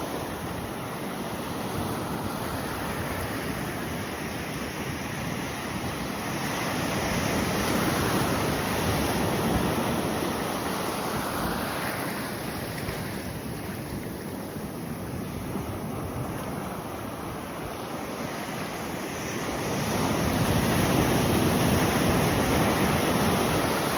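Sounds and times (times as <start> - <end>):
ocean waves washing onto beach: 0.0 - 23.9.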